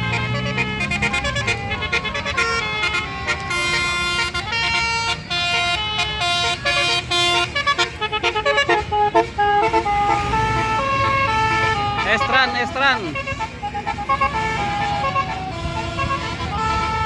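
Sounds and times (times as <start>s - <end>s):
bus horn playing a tune: 0.0s - 17.0s
low vehicle rumble: 0.0s - 17.0s.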